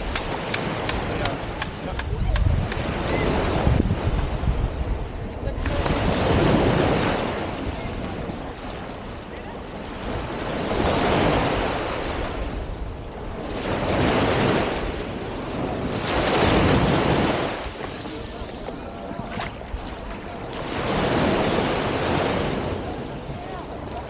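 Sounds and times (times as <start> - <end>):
waves breaking on a beach: 0.0 - 24.0
wind rumble on microphone: 0.0 - 24.0.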